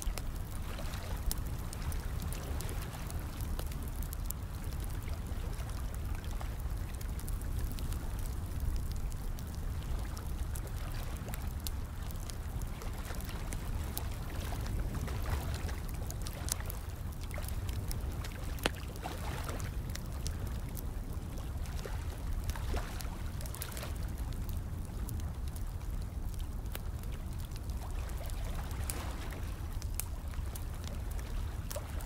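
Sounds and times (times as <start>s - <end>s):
fire crackling: 0.0s - 32.0s.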